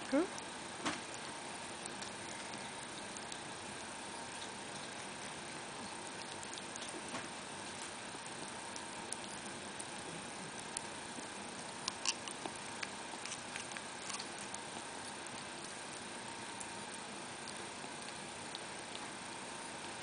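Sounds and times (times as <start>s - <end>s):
ferret licking and lapping: 1.0s - 20.0s.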